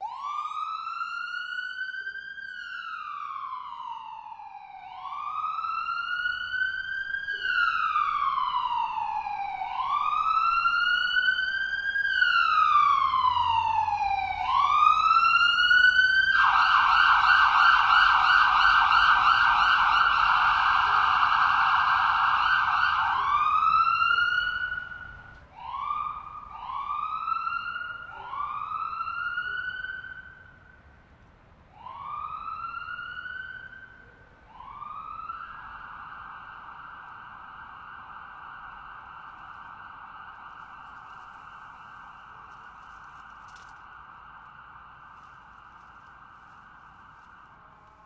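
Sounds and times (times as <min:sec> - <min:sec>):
distant ambulance siren: 0:00.0 - 0:48.0.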